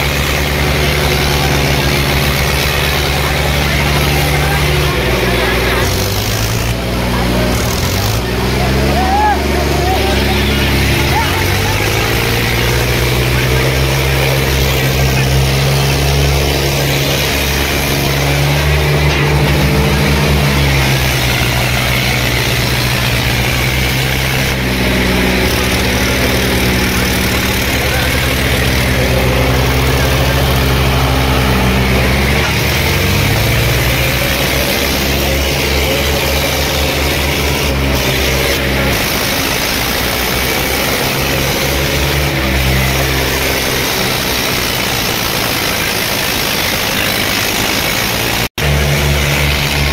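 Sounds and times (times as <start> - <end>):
diesel tractor engine running: 0.0 - 49.9.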